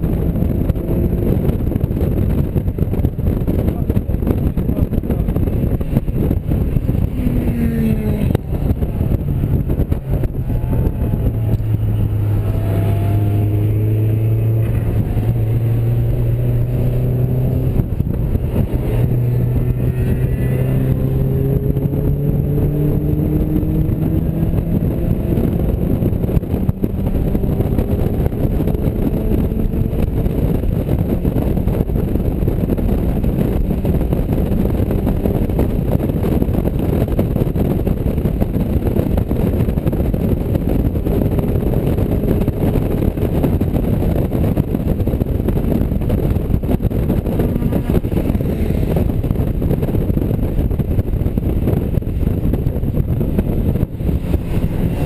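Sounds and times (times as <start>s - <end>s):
car engine at speed: 0.0s - 55.0s
wind rushing: 0.0s - 55.0s.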